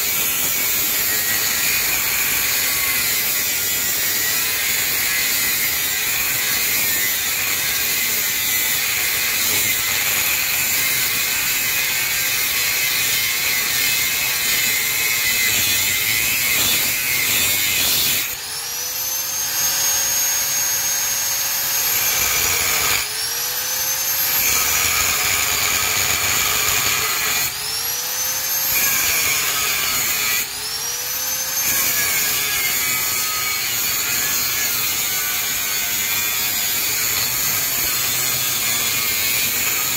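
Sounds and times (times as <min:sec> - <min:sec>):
angle grinder cutting metal: 0:00.0 - 0:39.9.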